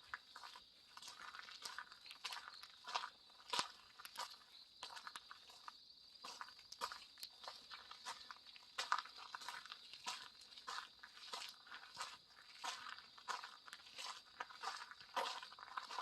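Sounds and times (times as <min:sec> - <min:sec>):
footsteps crunching on forest path: 0:00.0 - 0:16.0.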